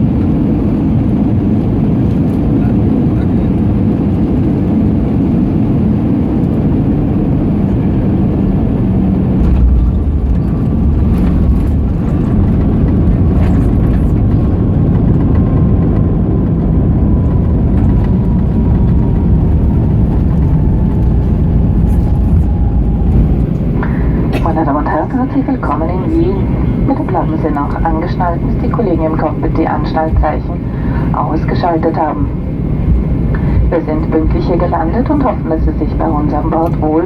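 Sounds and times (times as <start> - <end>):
aircraft engines rumbling: 0.0 - 37.0.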